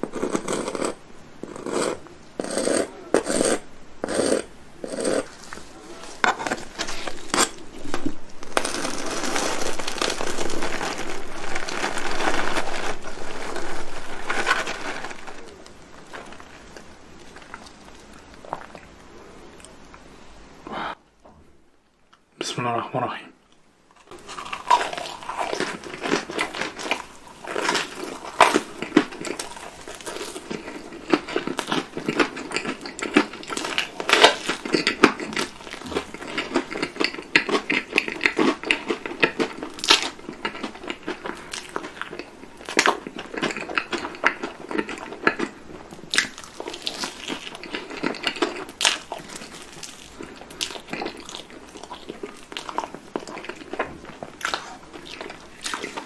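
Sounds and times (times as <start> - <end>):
crunchy chewing: 0.0 - 20.0, 23.9 - 56.0.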